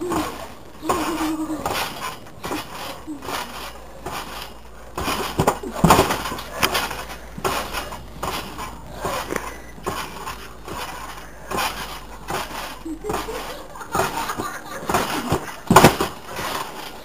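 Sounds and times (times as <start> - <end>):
thumps of trampoline landings: 0.0 - 17.0.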